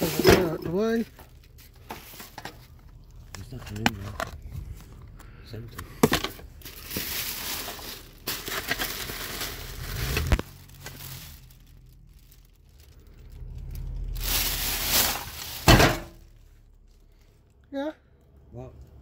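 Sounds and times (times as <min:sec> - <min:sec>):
plastic bags and paper crinkling: 0:00.0 - 0:17.6.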